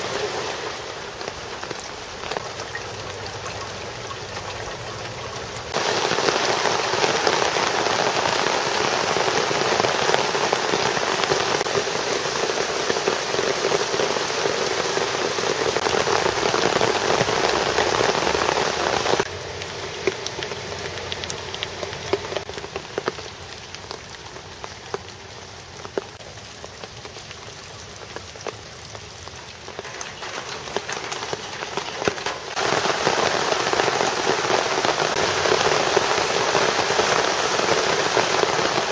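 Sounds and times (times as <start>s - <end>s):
rain patter: 0.0s - 38.9s
water spilling from gutter: 0.0s - 38.9s
water splashing into rain barrel: 0.0s - 38.9s.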